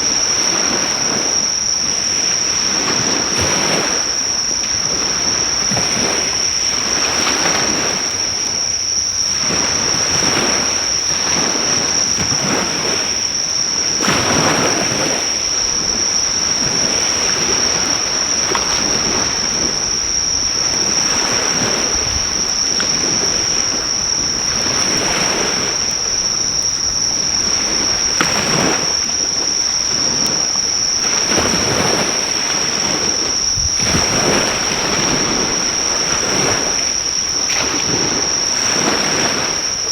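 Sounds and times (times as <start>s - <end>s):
high-pitched insect trill: 0.0s - 39.9s
waves breaking on shore: 0.0s - 39.9s.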